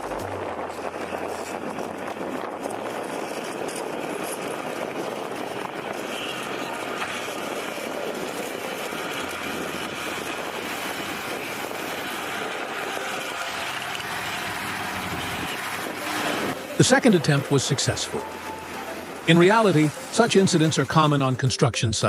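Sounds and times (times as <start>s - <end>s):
heavy diesel engines under load: 0.0s - 22.0s.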